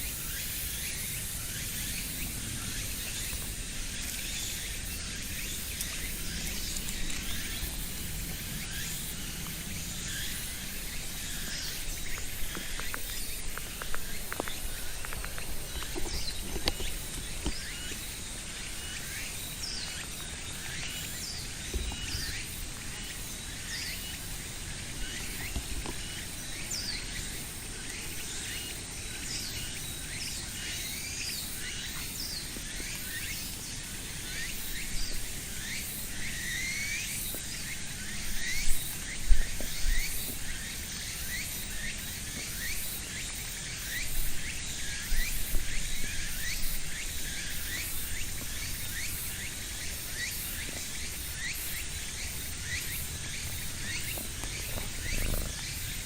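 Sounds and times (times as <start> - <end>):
small birds chirping: 0.2 - 56.0.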